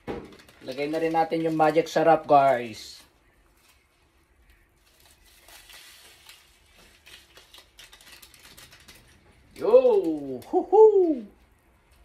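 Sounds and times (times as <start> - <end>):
foil sachet crinkling and ticking: 0.3 - 12.0.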